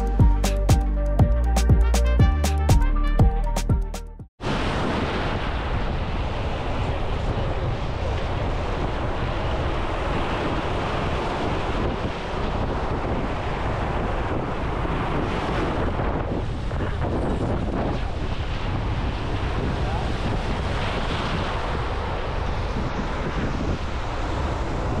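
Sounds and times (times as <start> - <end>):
wind buffeting microphone: 4.4 - 25.0.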